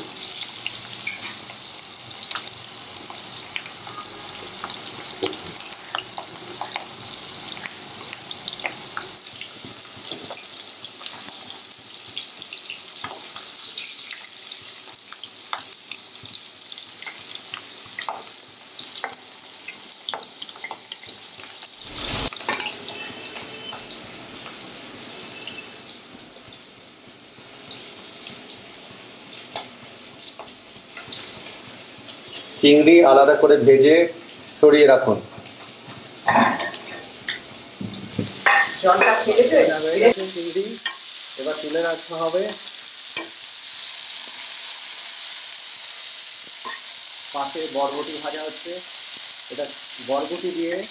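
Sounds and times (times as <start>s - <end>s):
prawns sizzling in hot oil: 0.0s - 50.9s.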